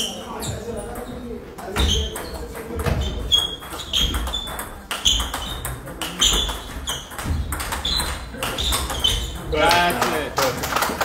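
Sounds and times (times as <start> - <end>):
ping pong ball hitting paddles: 0.4 - 11.0.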